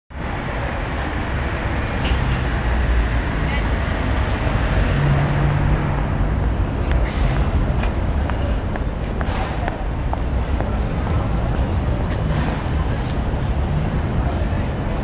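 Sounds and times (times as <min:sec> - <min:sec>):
traffic: 0:00.1 - 0:15.0
tram noise: 0:00.1 - 0:15.0.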